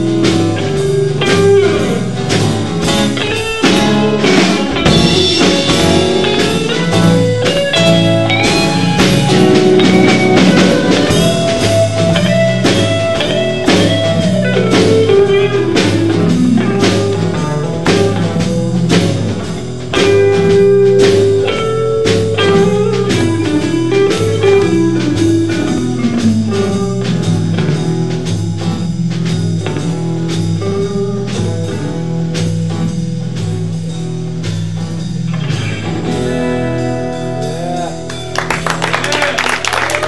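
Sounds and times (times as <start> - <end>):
drum kit: 0.0 - 40.0
electric bass line: 0.0 - 40.0
electric lead guitar: 0.0 - 40.0.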